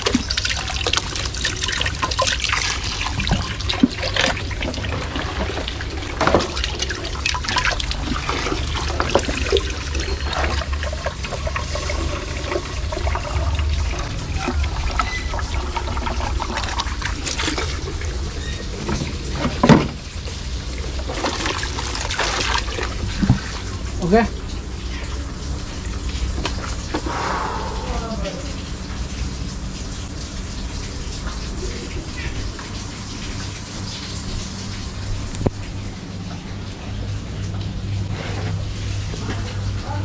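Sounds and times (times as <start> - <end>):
water trickling and splashing: 0.0 - 40.0.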